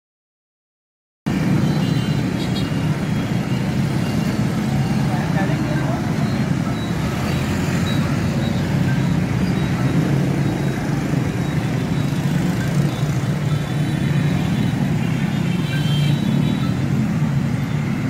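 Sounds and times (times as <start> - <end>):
street traffic hum: 1.3 - 18.0.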